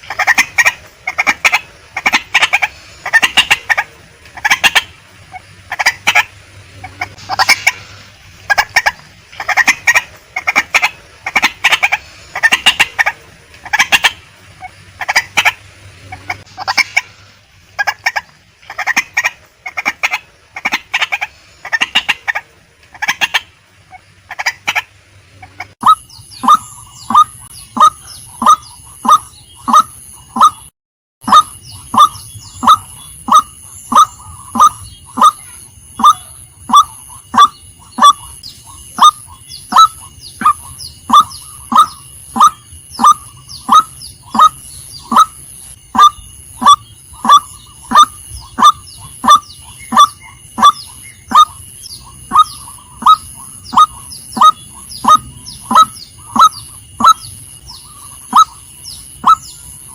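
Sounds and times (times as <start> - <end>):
waterhen harsh calls: 0.0 - 59.9.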